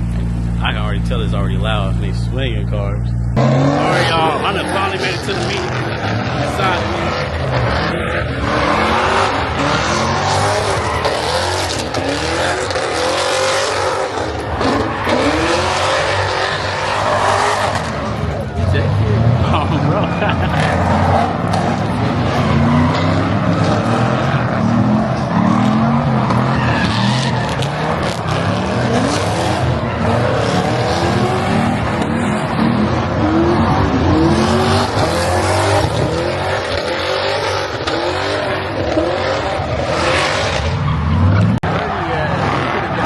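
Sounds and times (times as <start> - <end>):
car engines revving hard: 0.0 - 43.0
tires squealing: 0.0 - 43.0.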